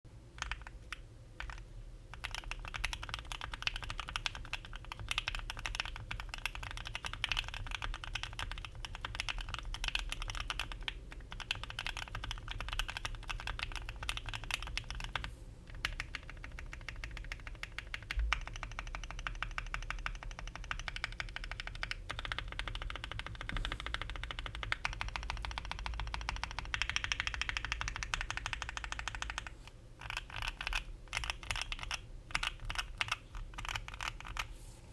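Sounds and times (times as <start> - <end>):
mechanical keyboard typing: 0.4 - 34.5.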